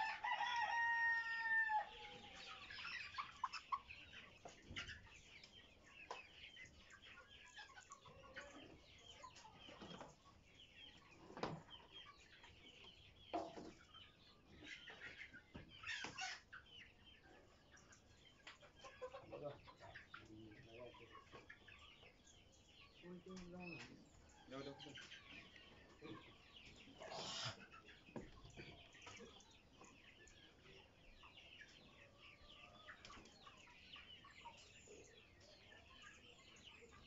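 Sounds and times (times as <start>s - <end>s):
chickens clucking and chirping: 0.0s - 37.0s.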